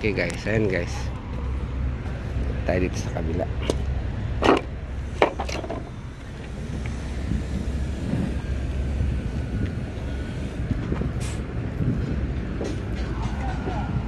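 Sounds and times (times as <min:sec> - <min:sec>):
heavy machinery engine rumble: 0:00.0 - 0:14.0.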